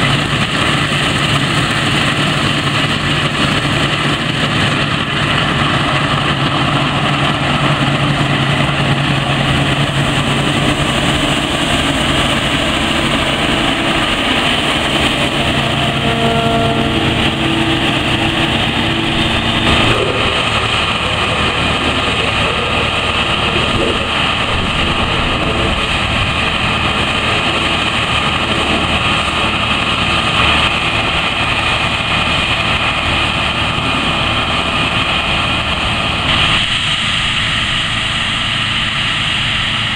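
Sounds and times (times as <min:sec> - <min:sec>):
combine harvester running: 0:00.0 - 0:39.9
grain unloading auger: 0:00.0 - 0:39.9.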